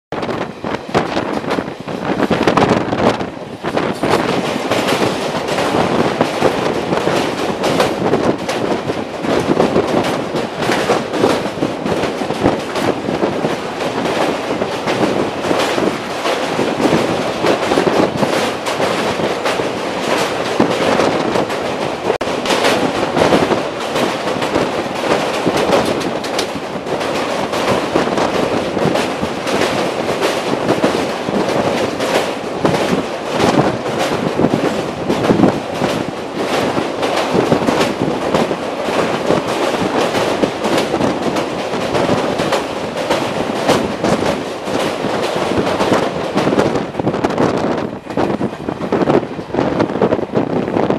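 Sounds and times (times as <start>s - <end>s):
train wheels clattering on bridge: 0.1s - 50.9s.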